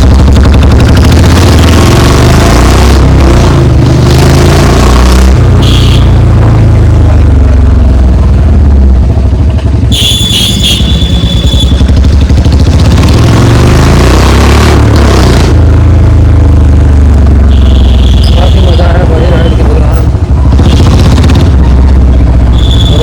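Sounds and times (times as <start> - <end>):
exhaust beats: 0.0 - 23.0
motorcycle engine running loud: 0.0 - 23.0.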